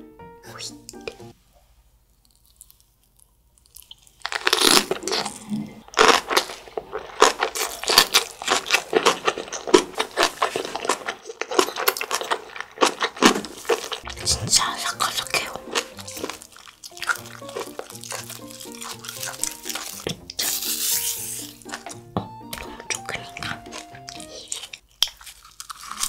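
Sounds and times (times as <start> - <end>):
crunchy chewing: 2.1 - 22.0, 22.6 - 26.0.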